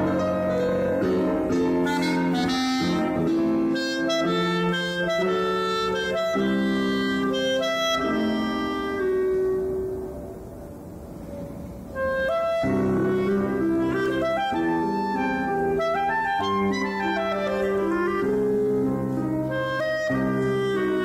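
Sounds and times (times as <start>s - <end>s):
clarinet playing melody: 0.0s - 10.2s, 11.9s - 21.0s
piano accompaniment: 0.0s - 21.0s.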